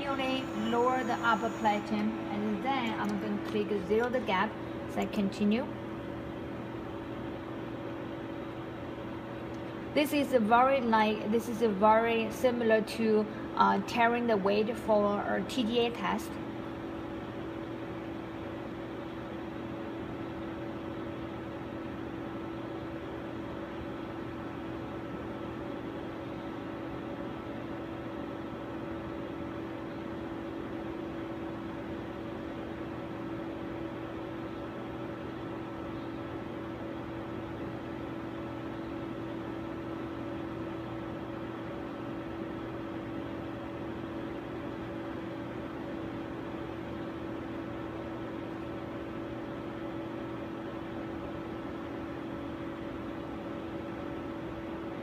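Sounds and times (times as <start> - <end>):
laboratory equipment humming: 0.0 - 55.0.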